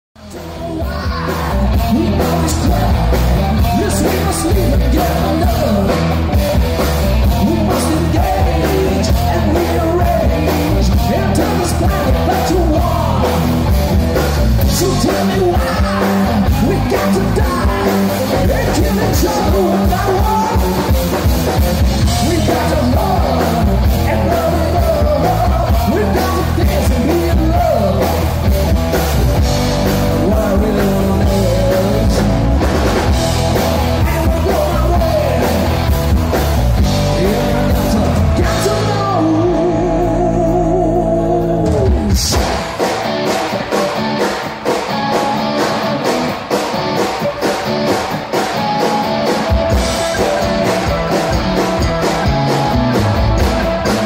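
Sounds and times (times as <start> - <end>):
man singing: 0.2 - 13.7, 14.3 - 32.6, 33.3 - 42.6, 49.7 - 52.6
drum kit: 0.2 - 54.0
electric guitars: 0.2 - 54.0.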